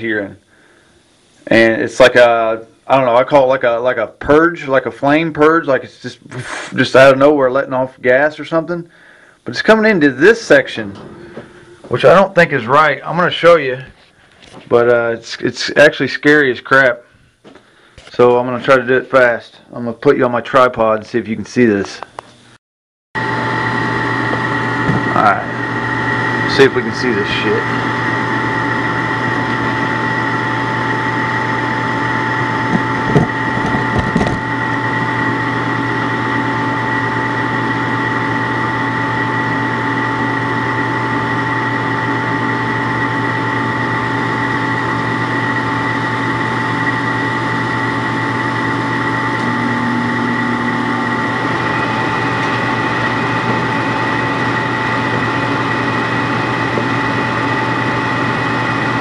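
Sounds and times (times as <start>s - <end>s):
furnace humming with whine: 0.0s - 22.6s, 23.2s - 59.0s.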